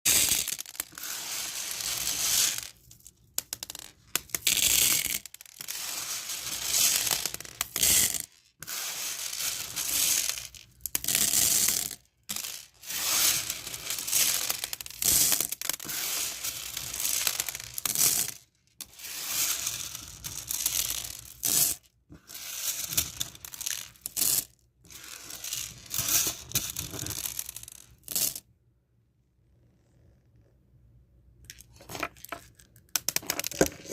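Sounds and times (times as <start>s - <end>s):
beads rattling together: 0.1s - 28.4s, 31.5s - 33.9s.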